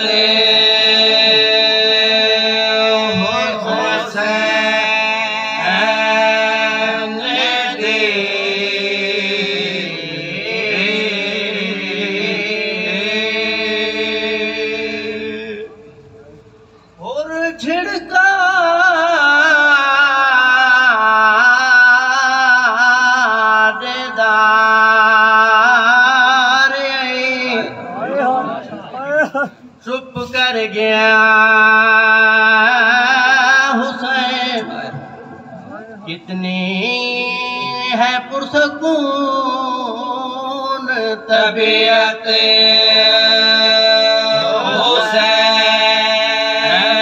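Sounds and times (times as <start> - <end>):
man chanting a lament: 0.0 - 16.1, 16.9 - 47.0.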